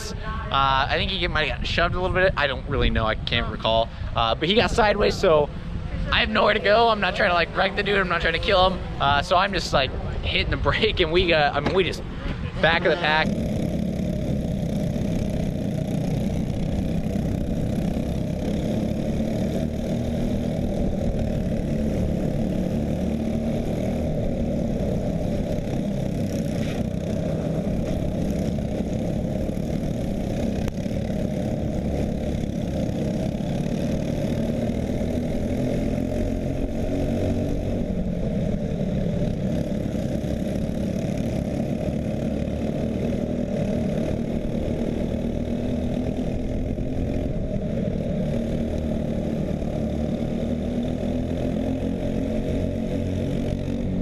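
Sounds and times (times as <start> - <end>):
muffled kart engine running: 0.0 - 54.0.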